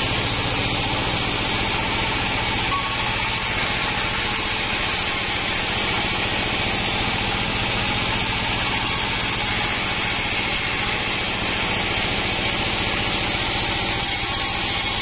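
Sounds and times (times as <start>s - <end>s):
band sawmill sawing wood: 0.0s - 15.0s.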